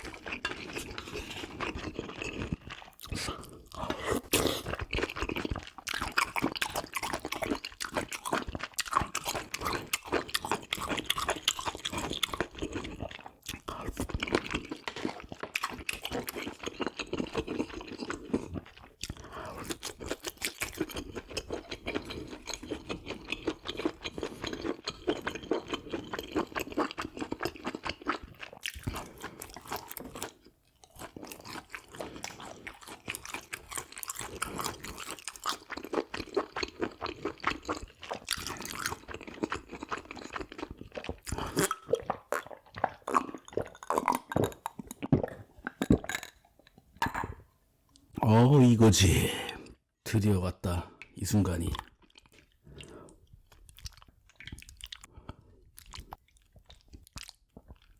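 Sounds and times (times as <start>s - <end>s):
person chewing food: 0.0s - 49.9s, 51.7s - 57.9s.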